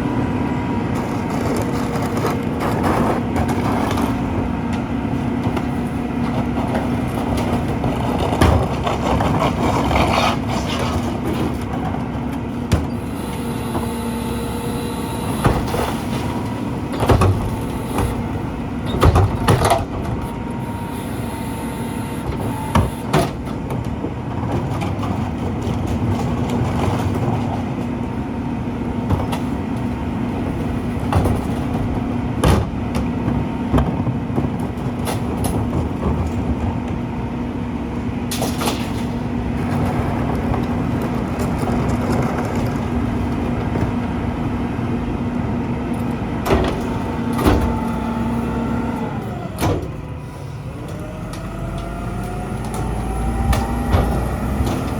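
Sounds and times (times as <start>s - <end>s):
garbage truck engine hum: 0.0s - 54.9s.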